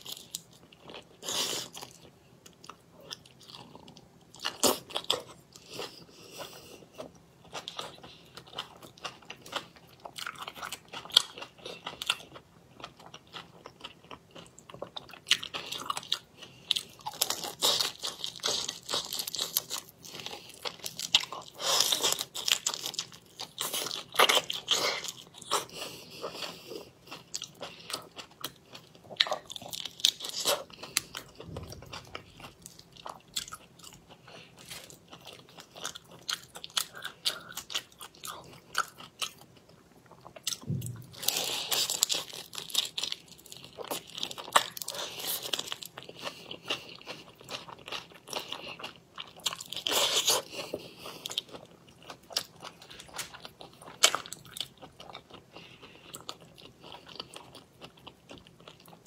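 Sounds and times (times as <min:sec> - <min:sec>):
crunching and chewing prawns: 0:00.0 - 0:59.0.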